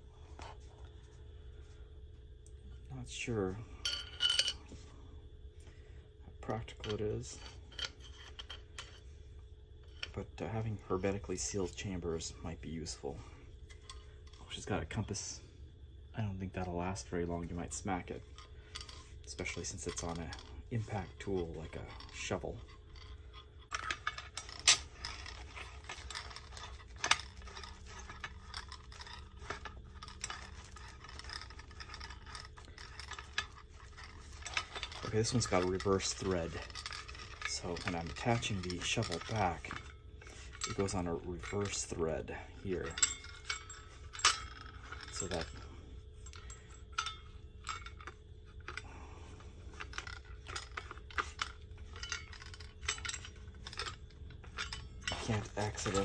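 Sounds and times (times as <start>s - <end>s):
metal clinking and scraping: 0.0s - 56.0s.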